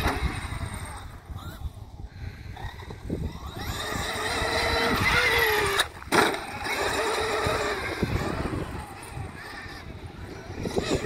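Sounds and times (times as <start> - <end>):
electric motor whining: 0.0 - 1.4, 2.4 - 11.0.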